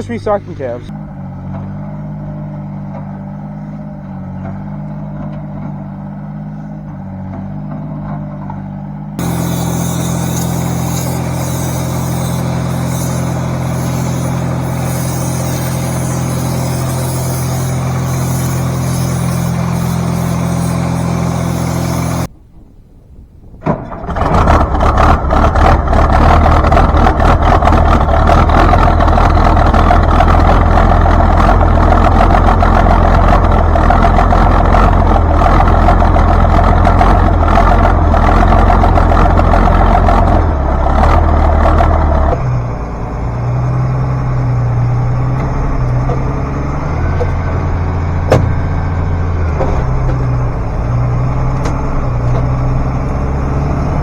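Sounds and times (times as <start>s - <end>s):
tractor diesel engine: 0.0s - 22.3s, 23.6s - 54.0s.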